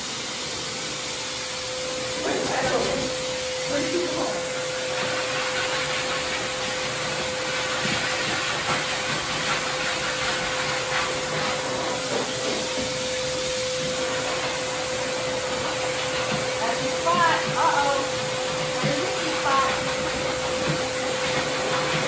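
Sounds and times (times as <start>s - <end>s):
air rushing from dryer nozzle: 0.0s - 22.0s
blower motor humming: 0.0s - 22.0s.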